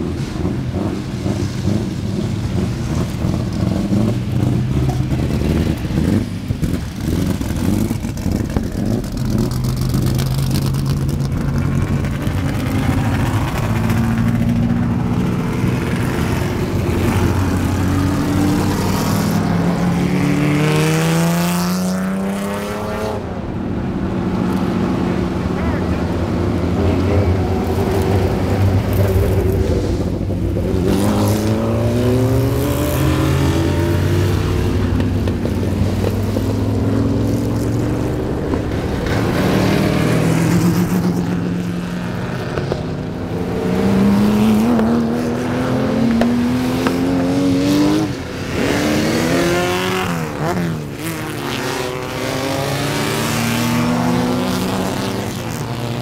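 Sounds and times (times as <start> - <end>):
race car engines accelerating past: 0.0 - 56.0.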